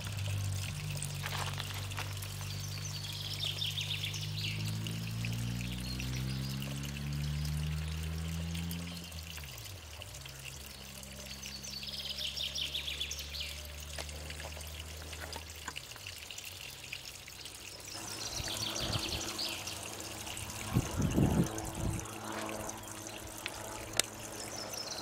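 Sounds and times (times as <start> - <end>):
low steady hum: 0.0 - 25.0
stream trickling over stones: 0.0 - 25.0.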